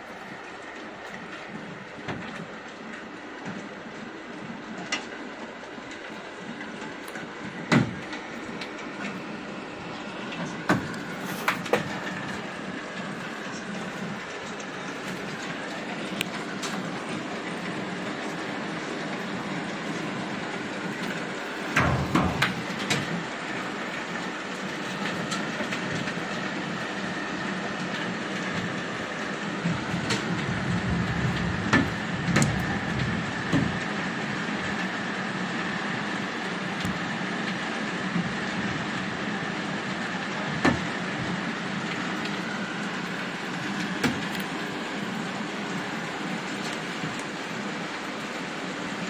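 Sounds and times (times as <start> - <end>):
hail pelting down: 0.0 - 49.0.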